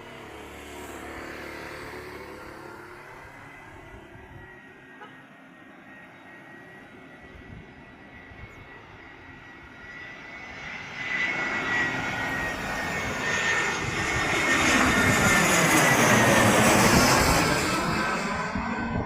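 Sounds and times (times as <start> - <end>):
jet airliner engine noise: 0.0 - 19.0.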